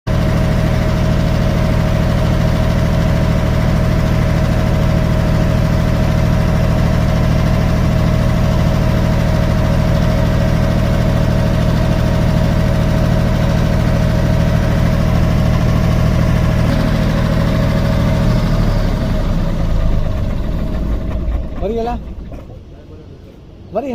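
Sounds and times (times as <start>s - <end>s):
diesel generator engine running: 0.1s - 23.9s.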